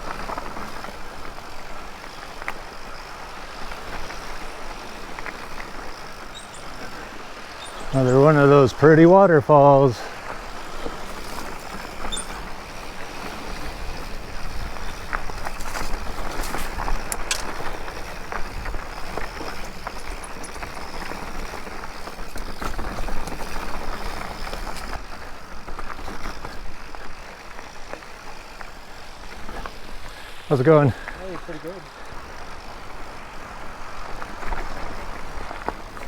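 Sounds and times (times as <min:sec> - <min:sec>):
bike tyres rolling on dirt: 0:00.0 - 0:36.0
wind rumbling on microphone: 0:00.0 - 0:36.0.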